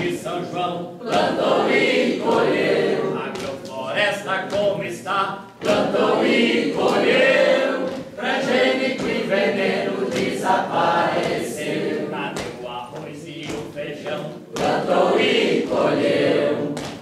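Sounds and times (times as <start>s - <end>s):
group singing a chant: 0.0s - 17.0s.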